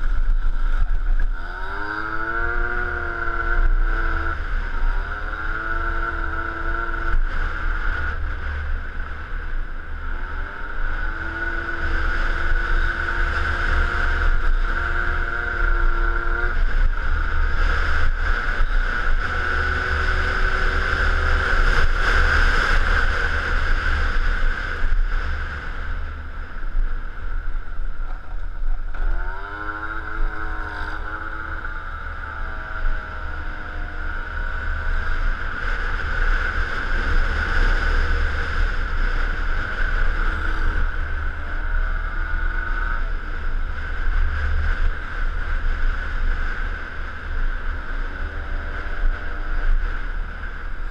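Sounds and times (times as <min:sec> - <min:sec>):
scooter engine accelerating: 0:00.0 - 0:50.9.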